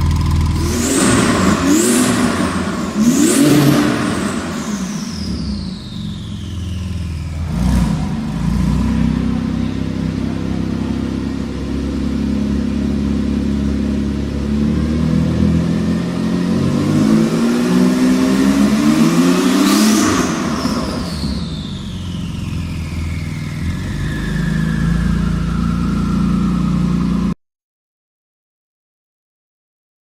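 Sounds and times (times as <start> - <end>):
sports car engine revving: 0.0 - 27.3.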